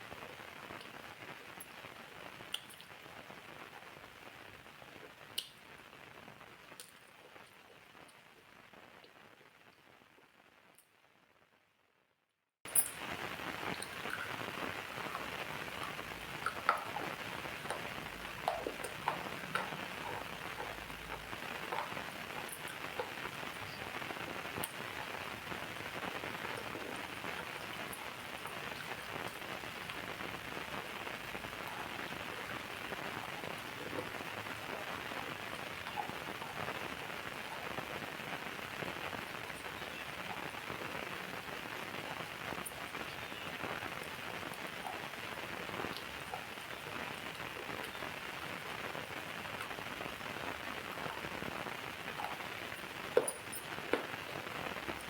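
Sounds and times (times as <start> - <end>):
raindrop ticks: 0.0 - 9.8, 12.7 - 55.0
steady rain: 0.0 - 11.1, 12.7 - 55.0.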